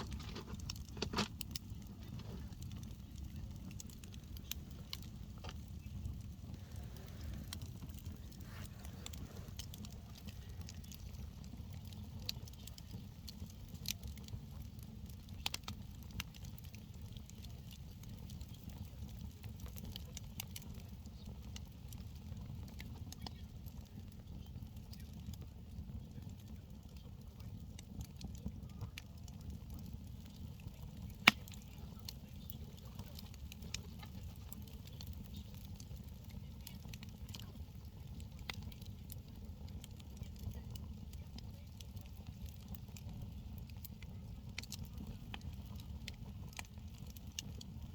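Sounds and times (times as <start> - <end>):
campfire crackling: 0.0 - 47.9
fire pops: 0.0 - 47.9.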